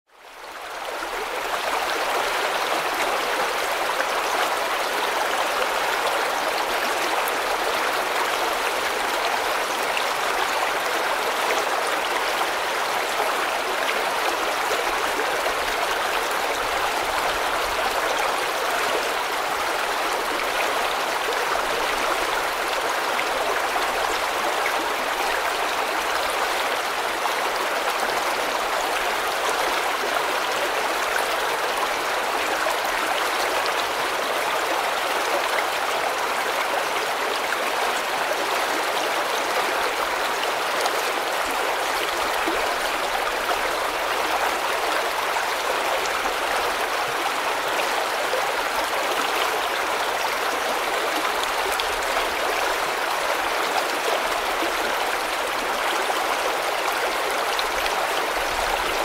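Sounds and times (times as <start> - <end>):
river water rushing: 0.3 - 59.0.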